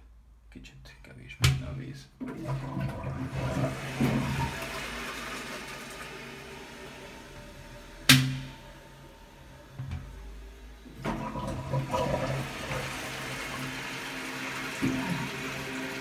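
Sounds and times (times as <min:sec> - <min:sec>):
toilet flushing: 0:02.2 - 0:16.0.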